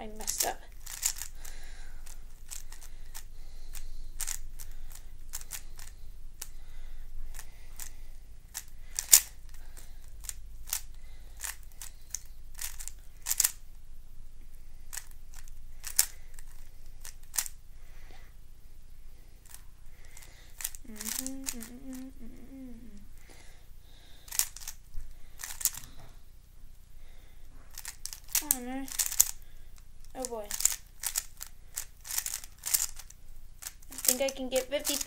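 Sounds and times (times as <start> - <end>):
puzzle cube clicking: 0.2 - 13.7, 14.9 - 17.6, 19.4 - 23.0, 24.3 - 24.8, 25.4 - 26.0, 27.7 - 35.0.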